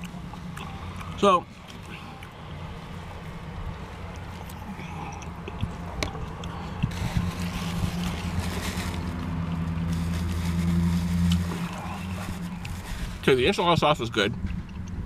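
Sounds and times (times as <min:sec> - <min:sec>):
vehicle engine idling: 0:00.0 - 0:14.8.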